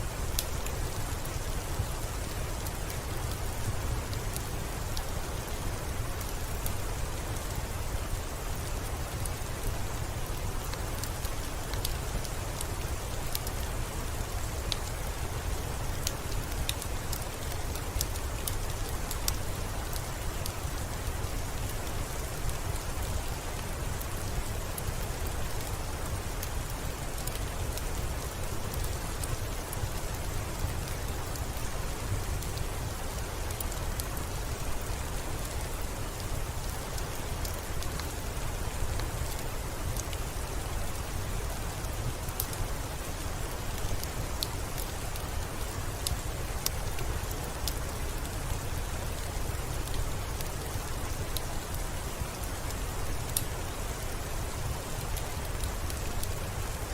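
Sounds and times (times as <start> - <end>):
steady rainfall: 0.0 - 56.9
raindrops ticking on surface: 0.1 - 56.9.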